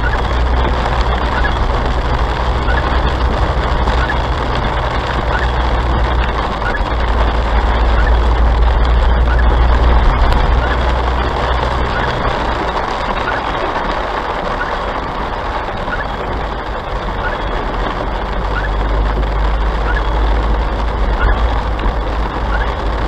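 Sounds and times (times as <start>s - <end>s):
car driving on wet road: 0.0s - 23.0s.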